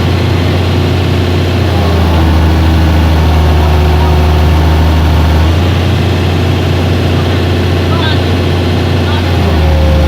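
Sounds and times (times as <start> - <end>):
heavy equipment engine humming: 0.0 - 10.0.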